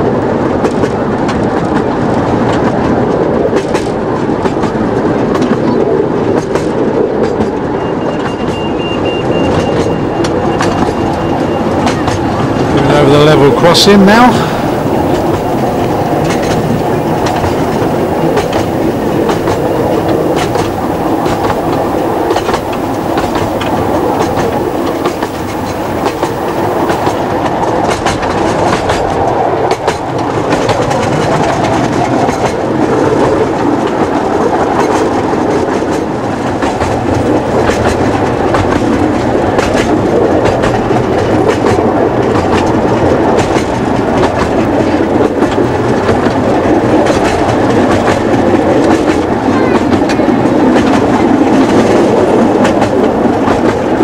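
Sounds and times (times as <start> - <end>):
wheels rumbling on rail: 0.0 - 54.0
wheels clacking over rail joints: 0.4 - 54.0.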